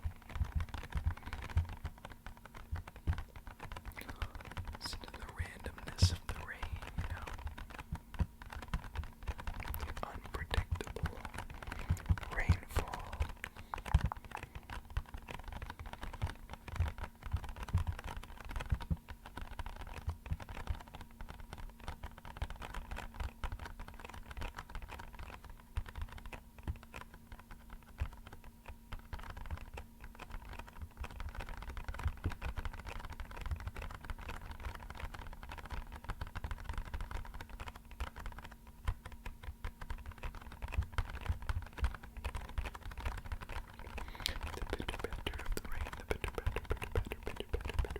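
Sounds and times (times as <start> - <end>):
rapid tapping on a box: 0.0 - 47.9.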